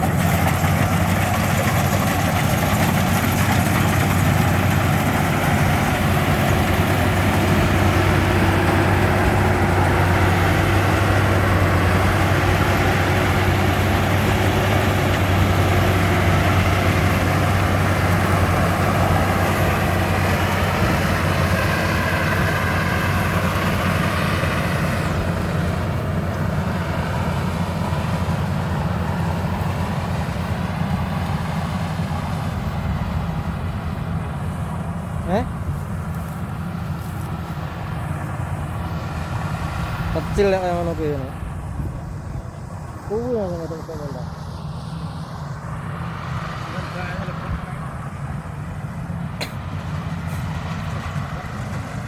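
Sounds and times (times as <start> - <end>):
combine harvester engine humming: 0.0 - 52.0.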